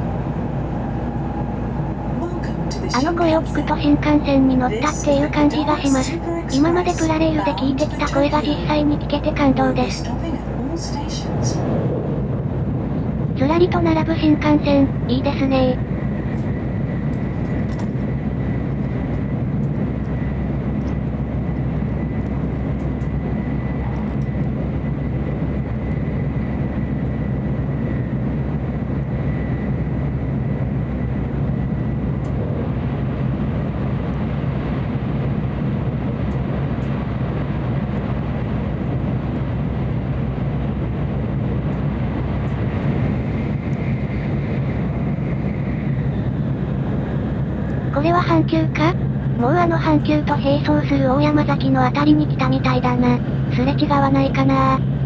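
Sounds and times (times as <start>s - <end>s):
train rumble from inside: 0.0s - 55.0s.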